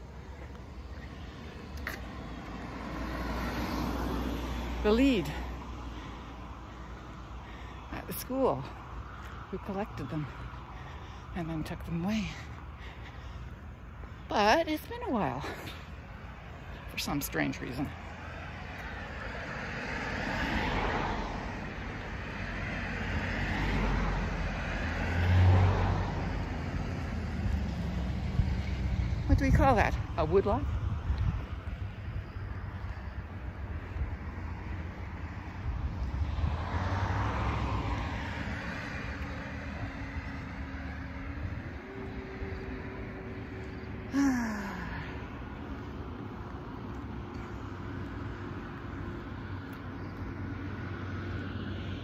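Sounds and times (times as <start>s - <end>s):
cars passing: 0.0s - 52.0s
vehicle road noise rumbling: 0.0s - 52.0s.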